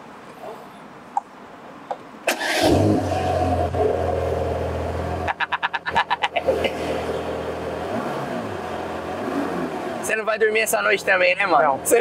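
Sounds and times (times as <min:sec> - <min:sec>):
car engine starting and idling: 0:02.3 - 0:12.0.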